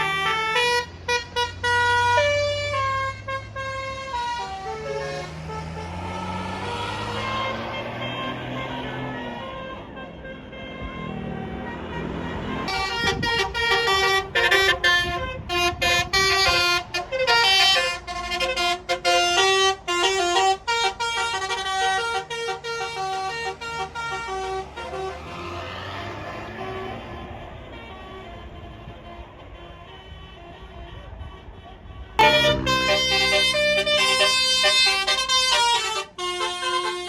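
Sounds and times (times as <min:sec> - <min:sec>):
bus engine: 0:00.0 - 0:37.0
bus horn playing tune: 0:00.0 - 0:37.0
road noise: 0:00.0 - 0:37.0.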